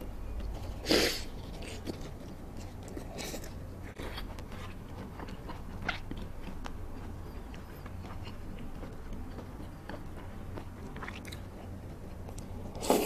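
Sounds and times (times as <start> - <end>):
person chewing food: 0.2 - 13.0.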